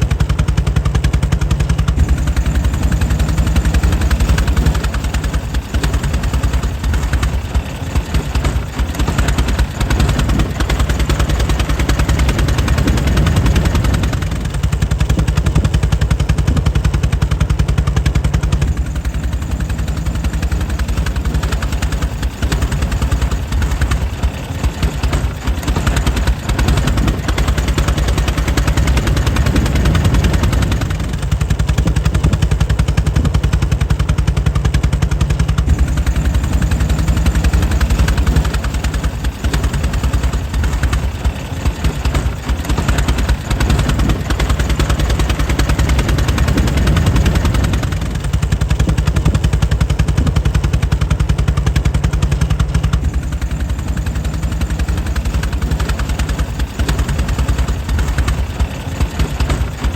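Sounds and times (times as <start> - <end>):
air-cooled car engine running: 0.0 - 59.9.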